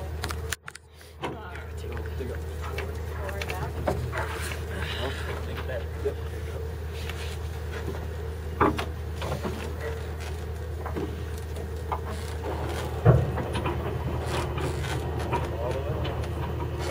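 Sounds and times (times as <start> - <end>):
rigging knocking and creaking: 0.0 - 5.9, 7.6 - 16.9
steady low hum: 0.0 - 16.9.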